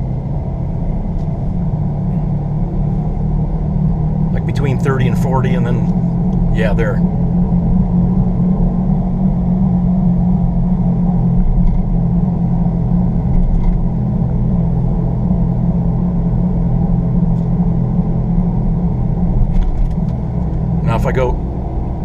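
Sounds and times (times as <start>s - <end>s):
road noise inside car: 0.0s - 22.0s.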